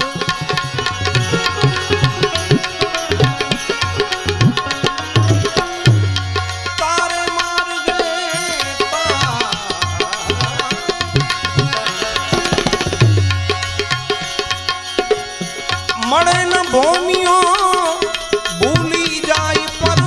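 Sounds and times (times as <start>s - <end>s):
sustained accompaniment: 0.0s - 20.0s
tabla rhythm: 0.0s - 20.0s
wavering melody: 0.0s - 20.0s.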